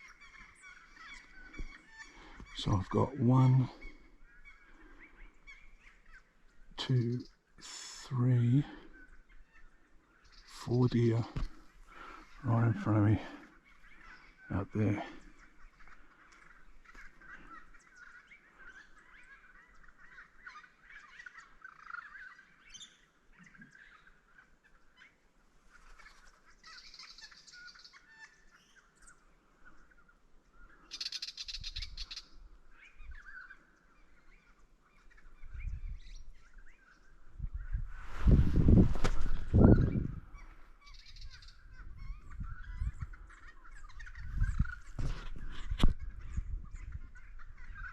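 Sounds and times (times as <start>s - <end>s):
birds calling and chirping: 0.0s - 47.9s.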